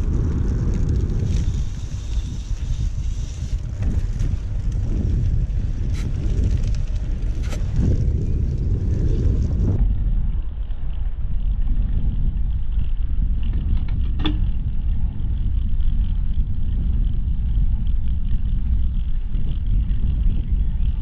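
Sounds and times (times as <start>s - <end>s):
bicycle rumbling over paving: 0.0s - 21.0s
wind buffeting microphone: 0.0s - 21.0s.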